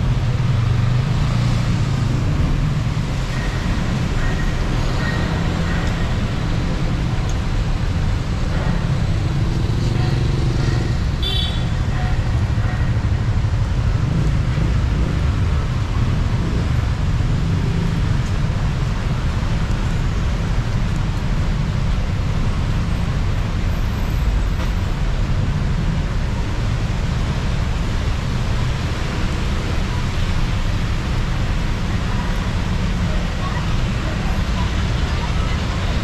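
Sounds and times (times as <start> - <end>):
traffic engines rumbling: 0.0 - 36.0.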